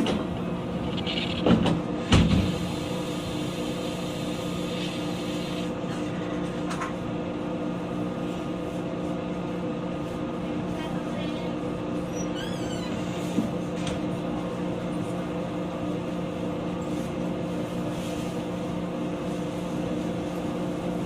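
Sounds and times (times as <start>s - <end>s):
electrical equipment hum: 0.0s - 21.0s.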